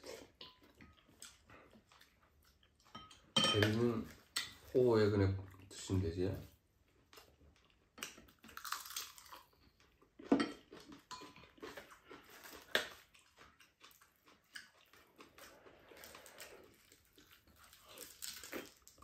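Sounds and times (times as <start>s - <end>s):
chewing: 0.0s - 4.7s, 6.8s - 19.0s.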